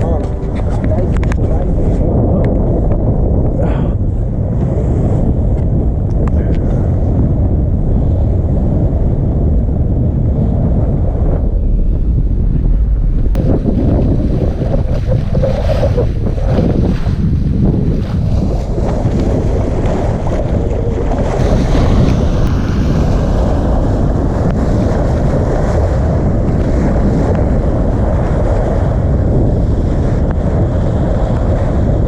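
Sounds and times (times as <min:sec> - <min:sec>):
water rushing along hull: 0:00.0 - 0:32.0
wind buffeting microphone: 0:00.0 - 0:32.0.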